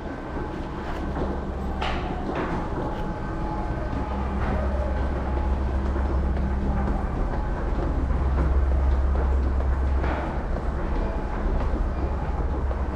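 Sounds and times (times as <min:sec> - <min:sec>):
subway train rumbling and rattling: 0:00.0 - 0:12.9.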